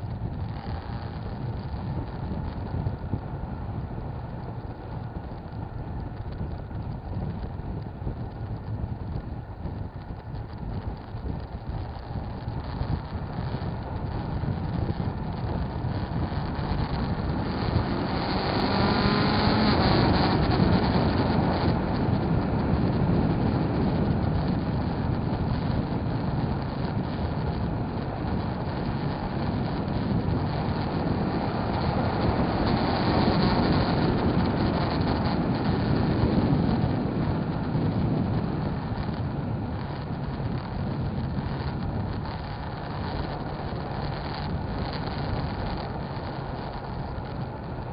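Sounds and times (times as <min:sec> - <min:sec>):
motorcycle engine accelerating: 0:00.0 - 0:47.9
wind noise: 0:00.0 - 0:47.9.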